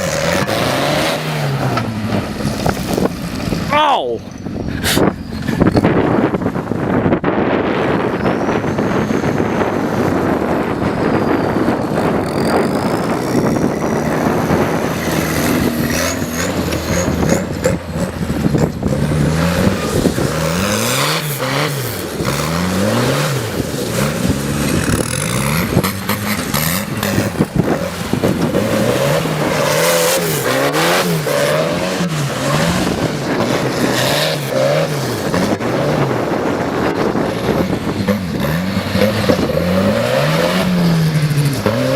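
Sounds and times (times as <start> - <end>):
tractor engine revving: 0.0 - 41.9.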